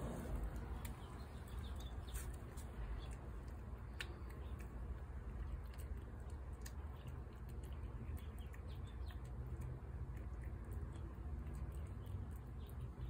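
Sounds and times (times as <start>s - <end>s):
cat chewing and licking: 0.0s - 13.0s
low steady rumble: 0.0s - 13.0s.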